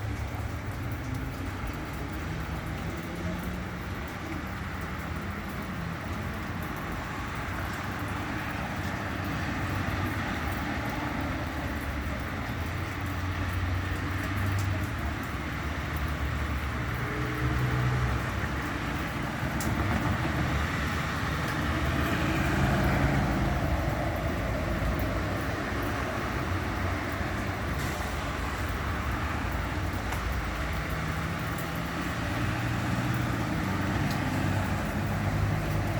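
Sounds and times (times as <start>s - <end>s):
road noise hiss: 0.0s - 35.9s.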